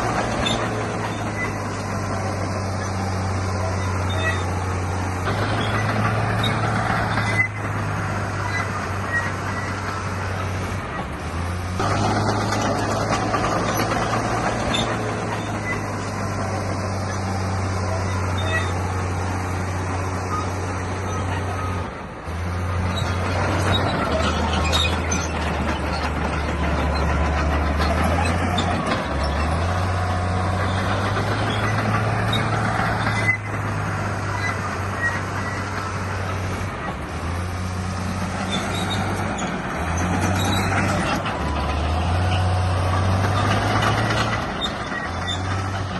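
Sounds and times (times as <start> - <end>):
diesel engine droning: 0.0 - 45.9
wide noisy rumble: 0.0 - 45.9.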